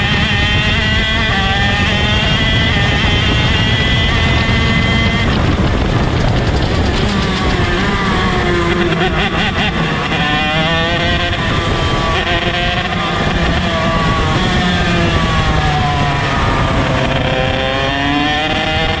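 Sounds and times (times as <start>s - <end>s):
kart engine running hard: 0.0s - 19.0s.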